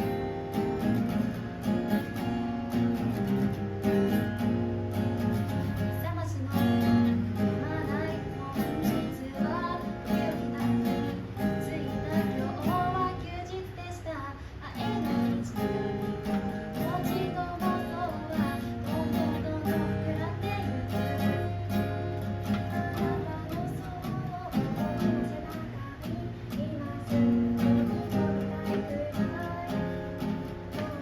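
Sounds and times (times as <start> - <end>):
acoustic guitar strummed: 0.0 - 31.0
person singing: 5.6 - 31.0.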